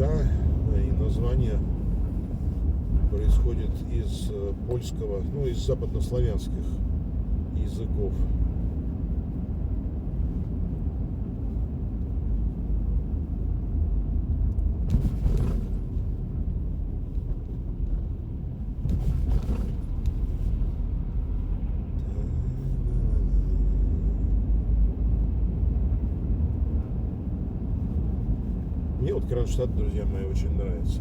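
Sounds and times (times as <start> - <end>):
road and engine rumble in car: 0.0 - 31.0.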